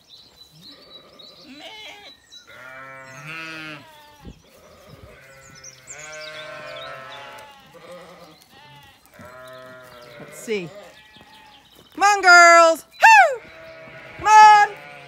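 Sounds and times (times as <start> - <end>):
sheep bleating: 0.7 - 11.7, 13.4 - 15.0.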